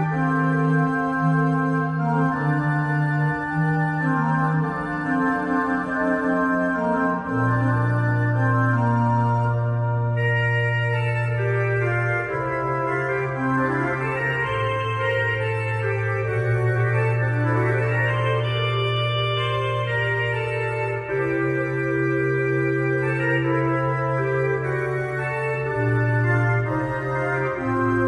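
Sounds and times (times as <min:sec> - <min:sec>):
pipe organ playing baroque music: 0:00.0 - 0:28.0.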